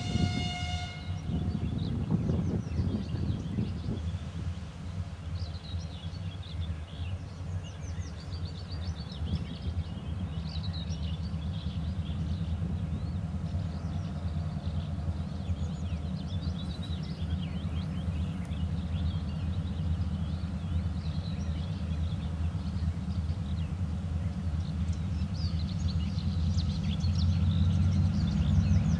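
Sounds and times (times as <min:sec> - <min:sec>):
distant locomotive engine rumbling: 0:00.0 - 0:28.9.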